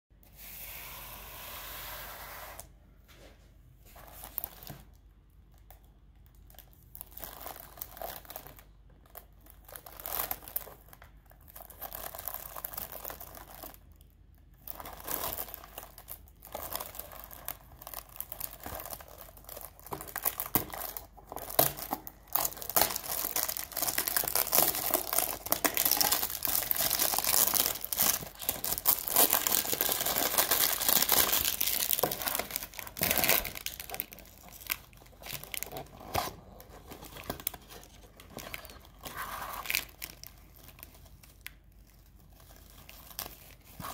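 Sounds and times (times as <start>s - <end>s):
cellophane crinkling and tearing: 3.9s - 43.9s.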